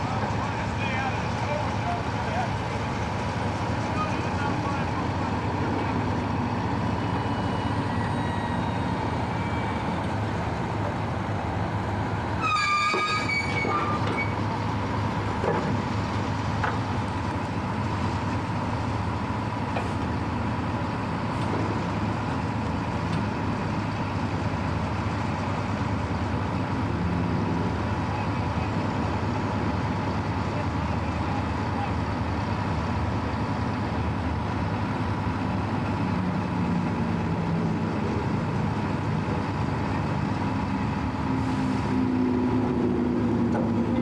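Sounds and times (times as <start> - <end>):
machinery rumble with hum: 0.0 - 44.0.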